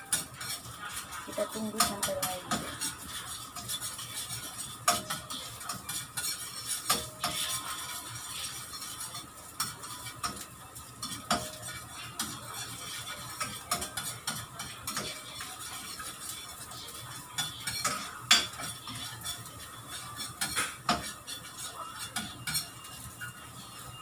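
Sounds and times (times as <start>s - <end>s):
oil sizzling: 0.0s - 24.0s
spatula scraping metal pan: 0.0s - 24.0s.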